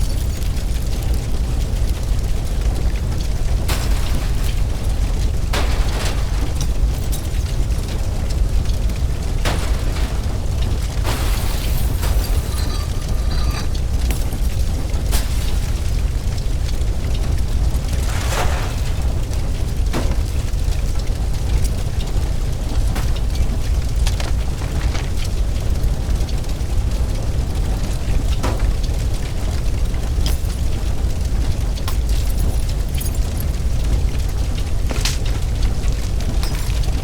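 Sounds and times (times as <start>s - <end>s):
debris cracking: 0.0s - 37.0s
fire crackling: 0.0s - 37.0s
fire rumbling: 0.0s - 37.0s.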